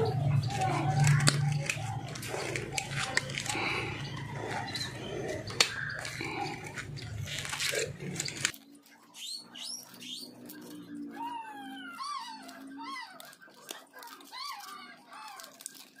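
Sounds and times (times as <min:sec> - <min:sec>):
animal crying: 0:00.0 - 0:08.5, 0:09.4 - 0:16.0
hands rustling wire and tape: 0:00.0 - 0:11.2, 0:12.0 - 0:16.0.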